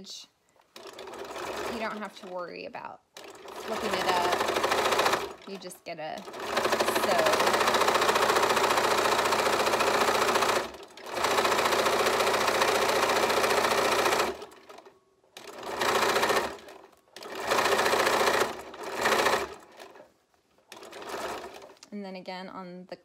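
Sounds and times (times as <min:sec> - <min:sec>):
sewing machine stitching: 0:00.7 - 0:02.5, 0:03.1 - 0:21.8.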